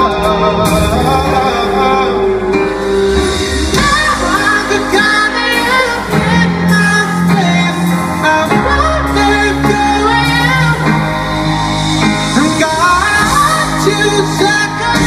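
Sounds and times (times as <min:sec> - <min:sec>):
bass: 0:00.0 - 0:15.0
live pop band: 0:00.0 - 0:15.0.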